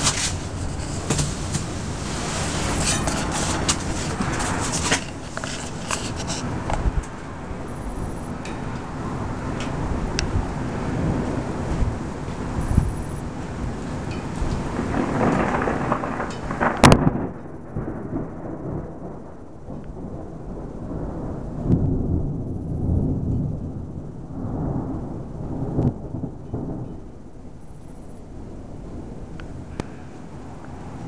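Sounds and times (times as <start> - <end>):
thunder rumbling: 0.0 - 31.0.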